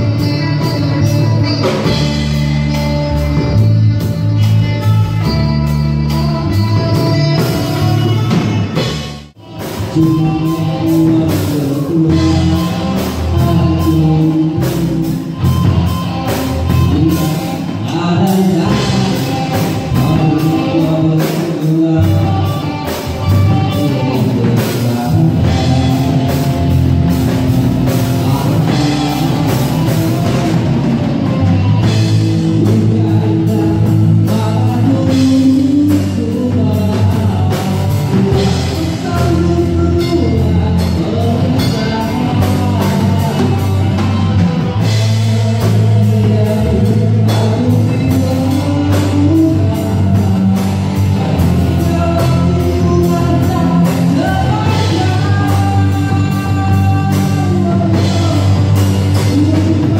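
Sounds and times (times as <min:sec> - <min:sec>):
bass guitar: 0:00.0 - 0:59.9
drum kit beat: 0:00.0 - 0:59.9
electric guitar: 0:00.0 - 0:59.9
man singing: 0:00.0 - 0:59.9.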